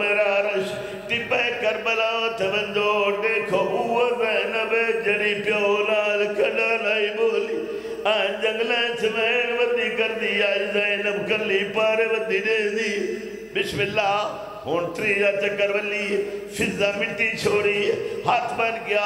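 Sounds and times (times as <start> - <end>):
man chanting over a microphone: 0.0 - 19.0.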